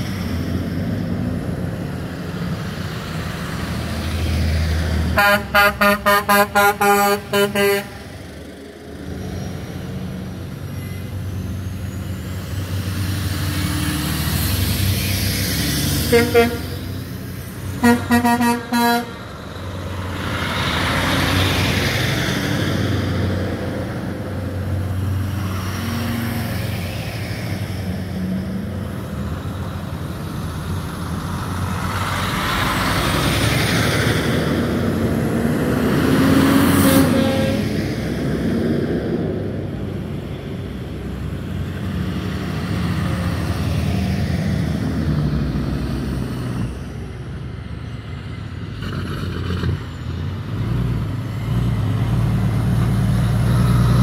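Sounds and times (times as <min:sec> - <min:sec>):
trucks driving past: 0:00.0 - 0:54.0.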